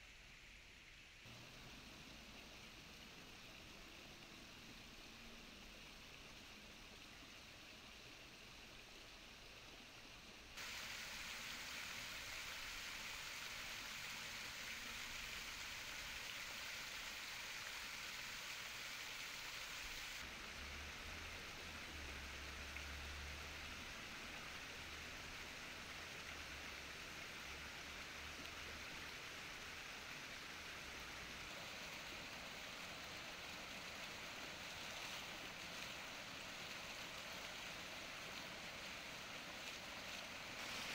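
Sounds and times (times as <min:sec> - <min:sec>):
faint outdoor ambience: 0:00.0 - 0:40.9
fountain water splashing: 0:01.2 - 0:40.9.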